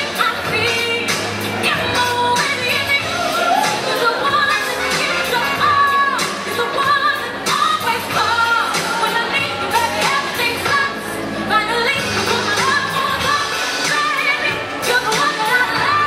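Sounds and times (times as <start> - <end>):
instrumental backing: 0.0 - 16.0.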